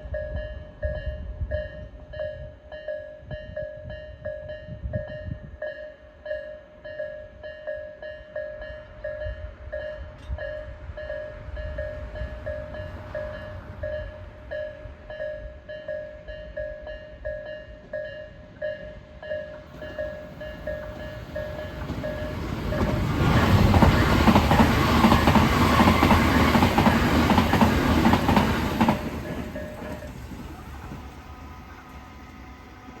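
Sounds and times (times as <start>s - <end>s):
level-crossing warning bells ringing: 0.0s - 33.0s
train rumbling past: 0.0s - 33.0s.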